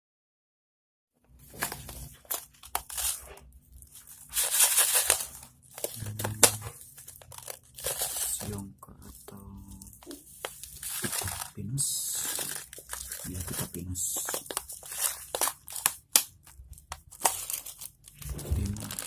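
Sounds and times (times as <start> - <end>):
crinkling handling noise: 1.3 - 19.0.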